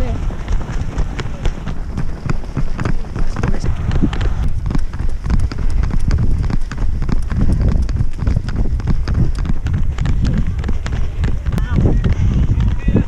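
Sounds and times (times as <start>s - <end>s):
runners' footsteps: 0.0s - 13.0s.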